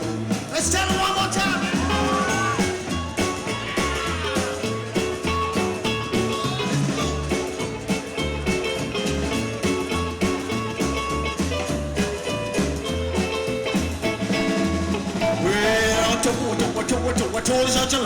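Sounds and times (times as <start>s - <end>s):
guitar: 0.0s - 18.0s
rock band playing instrumental: 0.0s - 18.0s
walking bass line: 0.0s - 18.0s.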